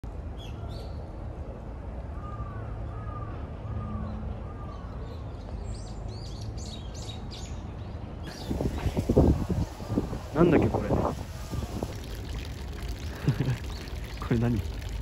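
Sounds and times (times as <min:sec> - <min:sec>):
low hum of city: 0:00.0 - 0:15.0.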